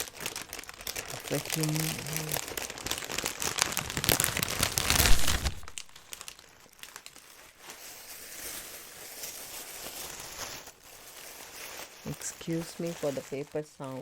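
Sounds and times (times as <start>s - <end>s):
packing paper crinkling: 0.0s - 14.0s.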